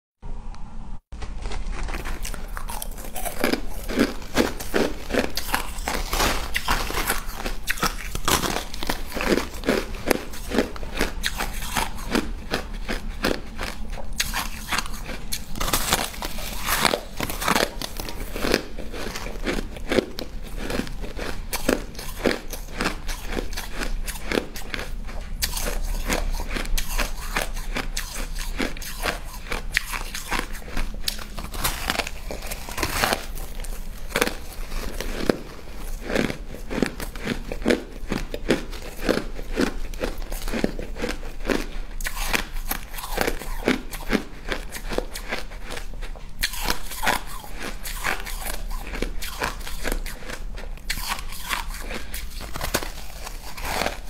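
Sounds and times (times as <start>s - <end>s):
ice crunching while chewed: 1.2s - 54.0s.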